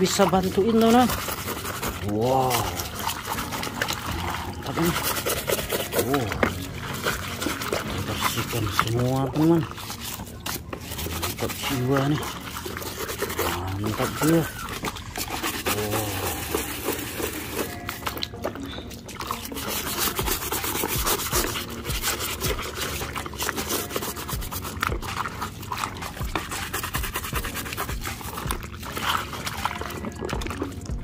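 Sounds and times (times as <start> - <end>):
brush scrubbing plastic toy: 0.0 - 31.0.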